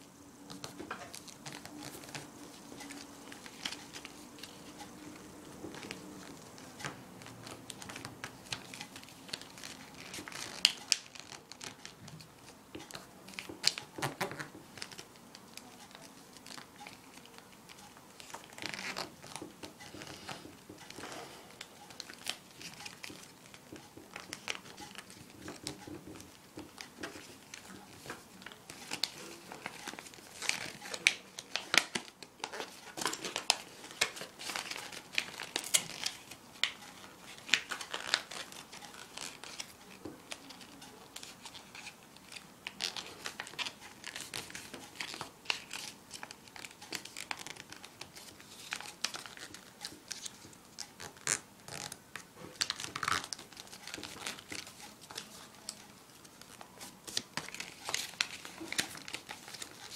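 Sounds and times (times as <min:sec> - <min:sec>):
paper crinkling and rustling: 0:00.0 - 0:59.9
sharp paper crackles: 0:00.5 - 0:21.0, 0:21.6 - 0:59.9.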